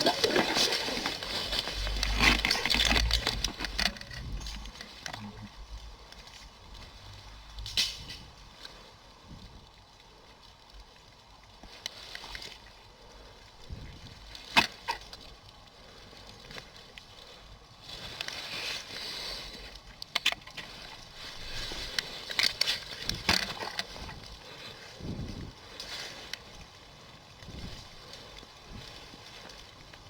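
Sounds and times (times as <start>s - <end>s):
twigs snapping: 0.0s - 6.5s, 7.5s - 8.8s, 11.6s - 13.2s, 14.0s - 17.2s, 18.0s - 30.0s
footsteps crunching through undergrowth: 0.0s - 10.0s, 10.6s - 30.0s.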